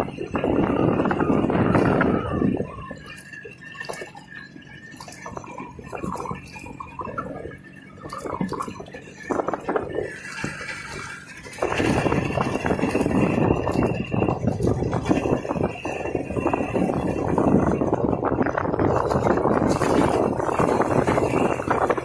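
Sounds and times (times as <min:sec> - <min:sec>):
motorcycle engine rattling: 0:00.0 - 0:22.0.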